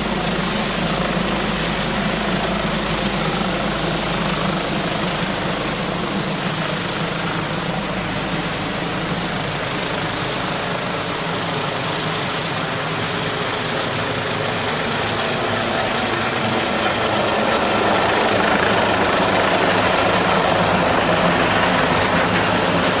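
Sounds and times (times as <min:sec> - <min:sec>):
helicopter rotors and engines: 0:00.0 - 0:23.0.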